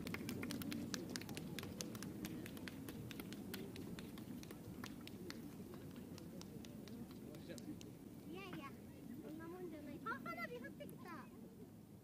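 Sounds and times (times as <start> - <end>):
distant crowd murmur: 0.0 - 12.0.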